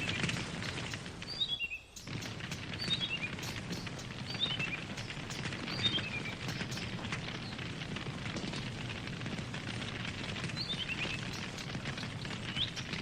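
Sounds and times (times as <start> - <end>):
campfire crackling and popping: 0.0 - 13.0
low rush of burning: 2.0 - 13.0.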